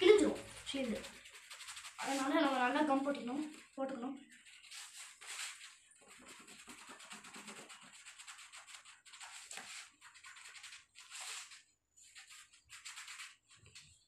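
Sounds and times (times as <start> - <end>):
hands rubbing cardboard: 0.0 - 14.0.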